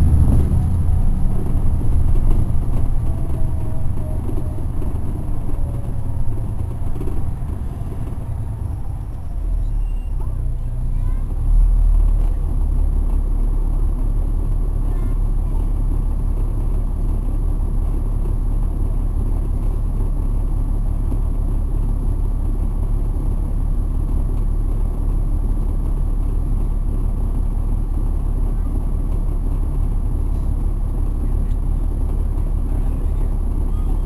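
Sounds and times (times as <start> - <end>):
bus diesel engine rumble: 0.0 - 34.0.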